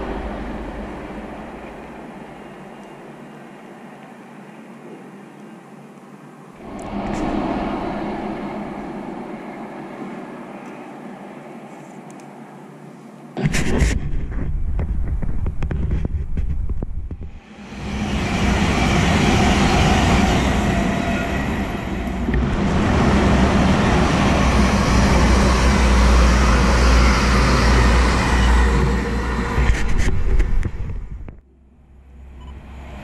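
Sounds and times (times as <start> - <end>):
heavy low rumble: 0.0 - 3.3, 6.6 - 11.7, 13.4 - 32.5
high-speed trains passing: 0.0 - 13.4, 17.2 - 30.7, 31.9 - 33.0.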